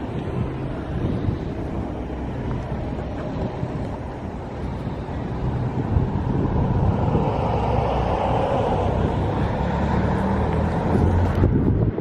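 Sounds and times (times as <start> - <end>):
outdoor background rumble: 0.0 - 12.0
wind on microphone: 0.0 - 12.0.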